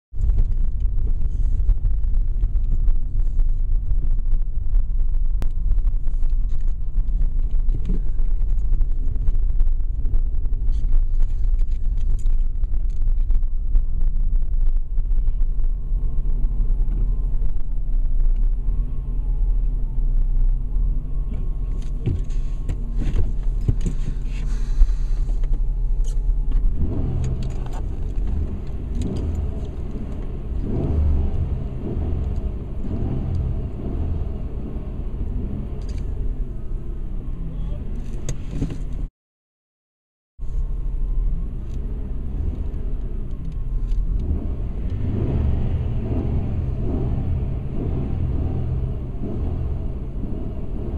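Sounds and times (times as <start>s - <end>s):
car engine idling: 0.2s - 39.1s, 40.4s - 50.9s.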